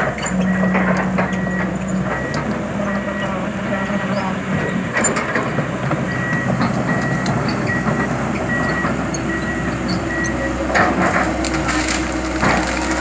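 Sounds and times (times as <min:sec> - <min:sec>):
high travel alarm beeps: 0:00.0 - 0:10.6
excavator diesel engine running: 0:00.0 - 0:13.0
steel tracks clattering: 0:00.0 - 0:13.0.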